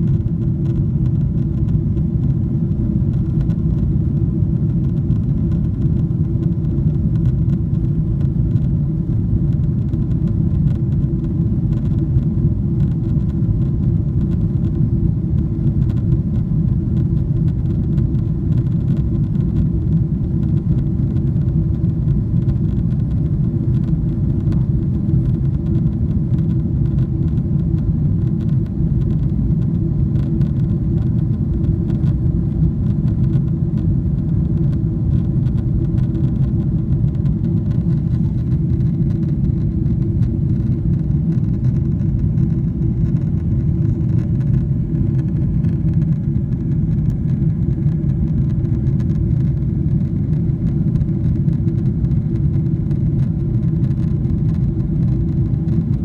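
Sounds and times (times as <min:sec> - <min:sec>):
jet engine low rumble: 0:00.0 - 0:56.0
steady hum: 0:00.0 - 0:56.0.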